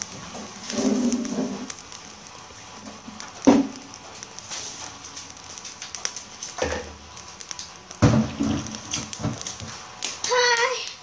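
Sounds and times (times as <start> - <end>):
charcoal fire crackling: 0.0 - 11.0
food sizzling on grill: 0.0 - 11.0
small pops: 0.0 - 11.0.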